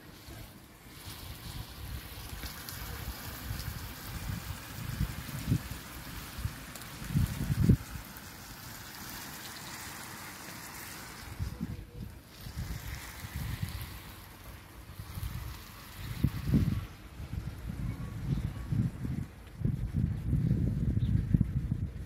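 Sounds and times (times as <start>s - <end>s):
steady hiss: 0.0s - 18.9s
wind buffeting microphone: 0.3s - 22.0s.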